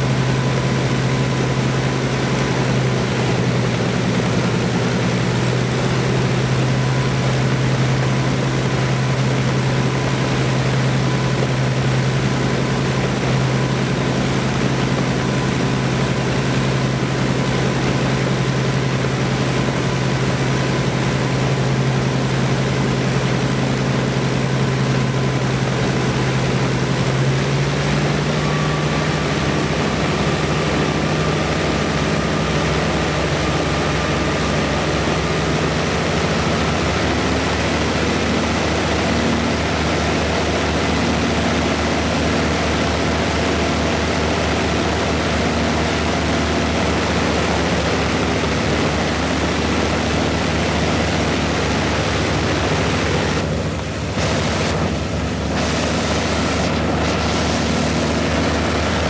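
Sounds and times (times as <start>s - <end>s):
aircraft piston engine running: 0.0s - 59.0s.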